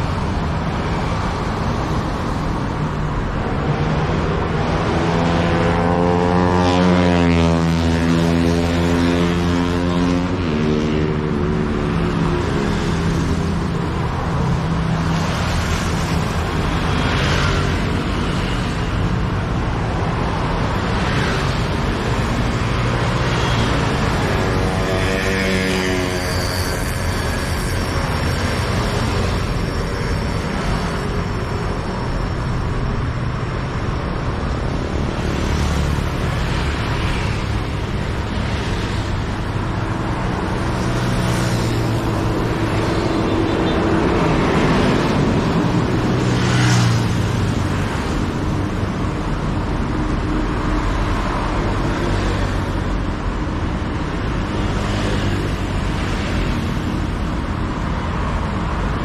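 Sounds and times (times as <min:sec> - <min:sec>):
engine hum and tyre noise: 0:00.0 - 0:59.0
vehicles passing: 0:00.0 - 0:59.0.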